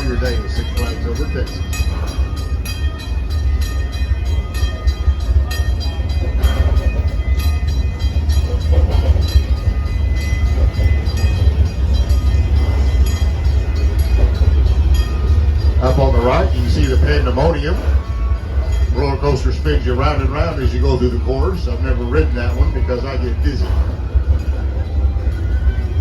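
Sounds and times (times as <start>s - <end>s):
steam train rumbling on track: 0.0s - 26.0s.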